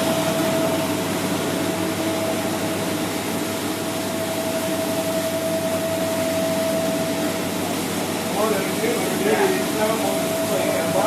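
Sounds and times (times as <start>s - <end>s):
rice milling machine running: 0.0s - 11.0s
steady machine whine: 0.0s - 11.0s.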